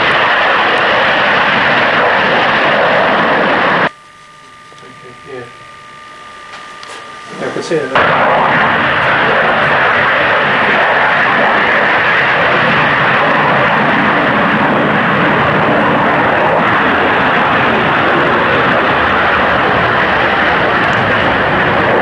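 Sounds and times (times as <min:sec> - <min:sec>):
jet airliner flying past: 0:00.0 - 0:03.9, 0:07.3 - 0:22.0.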